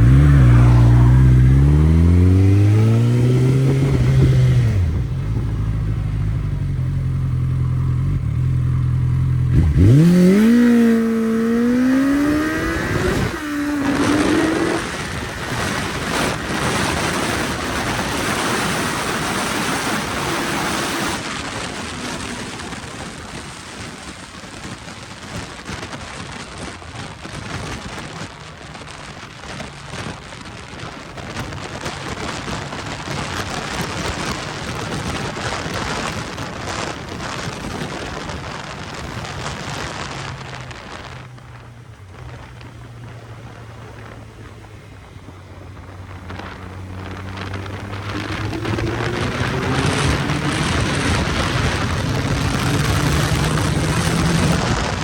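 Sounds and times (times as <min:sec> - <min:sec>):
motorcycle engine: 0:00.0 - 0:55.0
wind rushing over microphone: 0:00.0 - 0:55.0.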